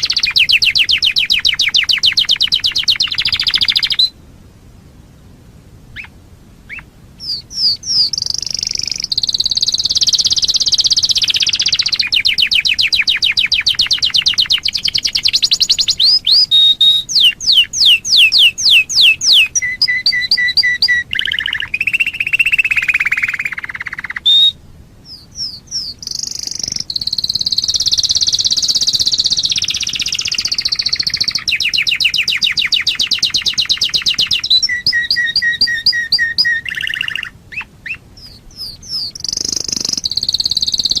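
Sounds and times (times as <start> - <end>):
canary singing: 0.0 - 4.2, 5.9 - 41.0.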